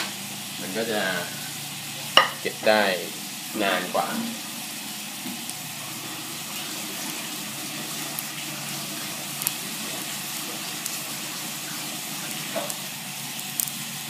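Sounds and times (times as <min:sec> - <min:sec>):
water boiling in frying pan: 0:00.0 - 0:14.0.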